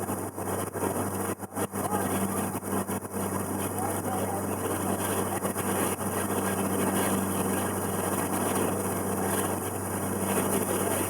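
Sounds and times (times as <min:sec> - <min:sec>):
boat engine humming: 0:00.8 - 0:11.0.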